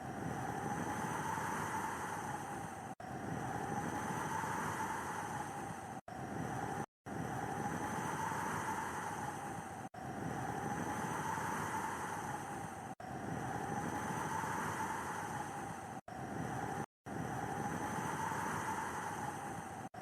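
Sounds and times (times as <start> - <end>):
howling snowstorm wind: 0.0 - 20.0.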